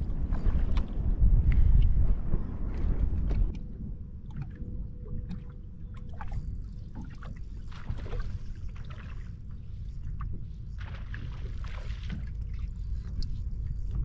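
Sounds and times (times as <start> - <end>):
small waves lapping on hull: 0.0 - 14.0
wind rumble on microphone: 0.0 - 14.0.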